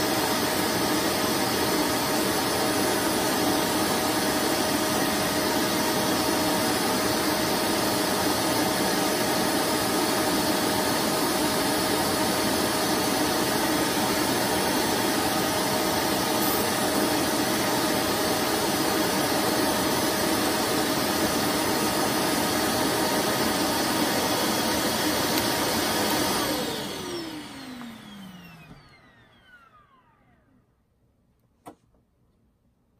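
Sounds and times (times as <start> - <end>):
vacuum cleaner motor running: 0.0 - 30.7
vacuum cleaner winding down whine: 0.0 - 30.8.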